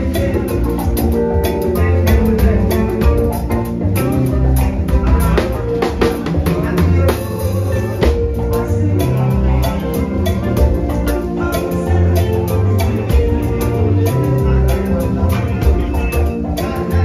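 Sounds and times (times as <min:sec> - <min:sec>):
drum kit: 0:00.0 - 0:17.0
electric bass line: 0:00.0 - 0:17.0
live band playing: 0:00.0 - 0:17.0.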